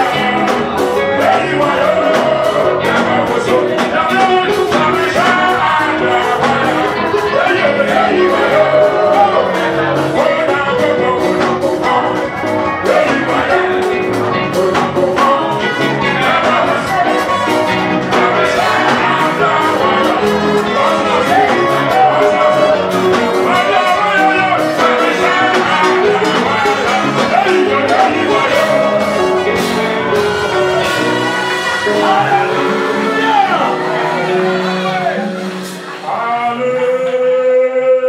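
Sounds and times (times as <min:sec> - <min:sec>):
steady beat: 0:00.0 - 0:36.4
electric keyboard: 0:00.0 - 0:38.0
people singing: 0:00.0 - 0:38.0.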